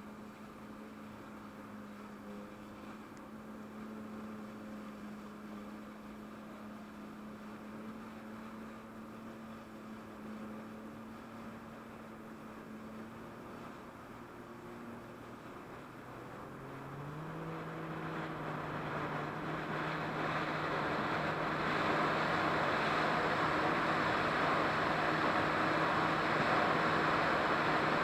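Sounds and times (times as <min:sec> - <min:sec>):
muffled jet ski engine droning: 0:00.0 - 0:28.0.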